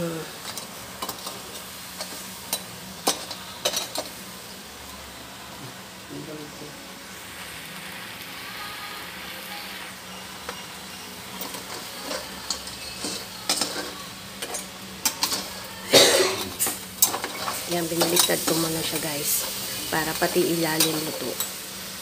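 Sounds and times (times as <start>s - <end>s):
crabs sizzling in wok: 0.0s - 22.0s.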